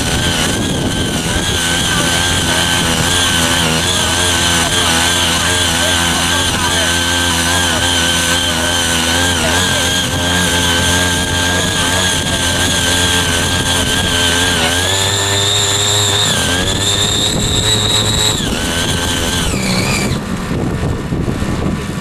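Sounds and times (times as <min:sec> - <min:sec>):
high steady whine: 0:00.0 - 0:22.0
small engine running hard: 0:00.0 - 0:22.0.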